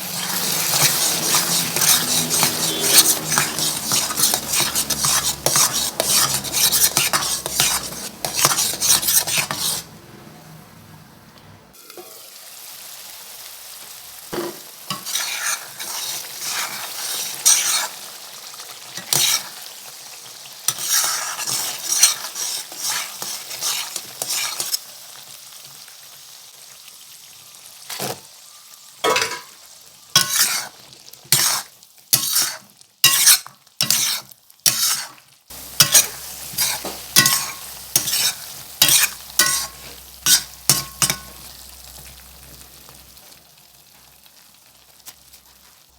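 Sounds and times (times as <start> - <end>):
utensil stirring and scraping a pan: 0.0 - 10.0, 14.3 - 25.3, 27.9 - 28.3, 29.0 - 45.9
curry sizzling: 0.0 - 45.9.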